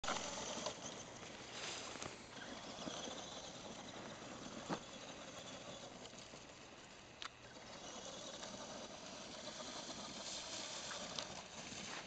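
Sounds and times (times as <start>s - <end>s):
toy truck motor whirring: 0.0s - 12.0s.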